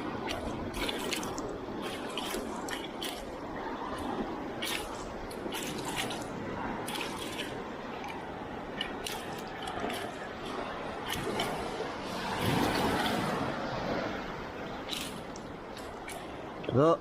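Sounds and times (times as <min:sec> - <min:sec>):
seawater splashing: 0:00.0 - 0:17.0
steady wash of water: 0:00.0 - 0:17.0.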